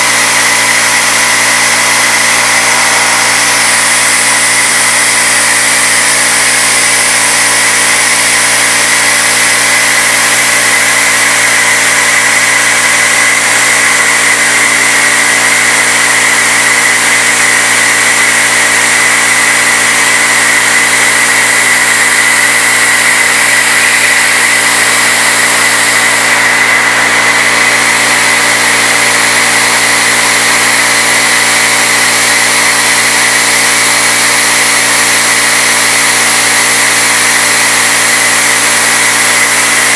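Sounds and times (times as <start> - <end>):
constant high whine: 0.0 - 39.9
milling machine cutting metal: 0.0 - 39.9.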